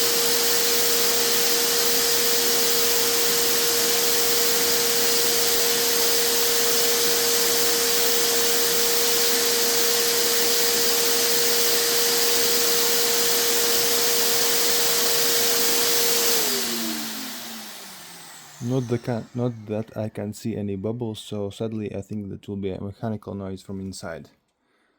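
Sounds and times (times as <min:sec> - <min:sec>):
vacuum cleaner motor whine: 0:00.0 - 0:20.1.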